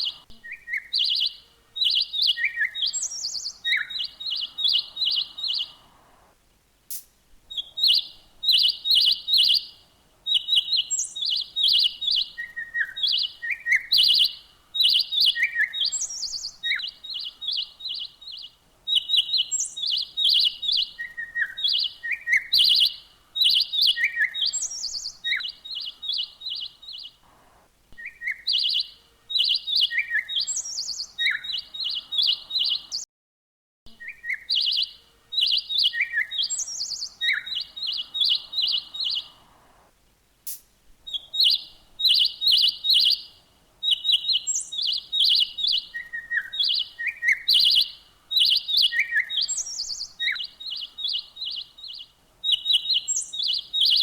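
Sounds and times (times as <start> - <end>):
songbird singing: 0.0 - 33.1, 33.9 - 54.0.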